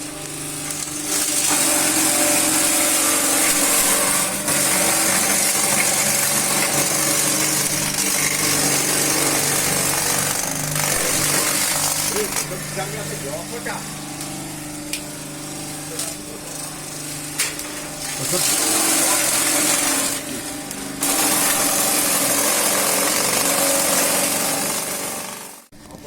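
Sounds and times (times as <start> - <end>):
loud whirring rattling: 0.0 - 26.0
motor hum: 0.0 - 26.0.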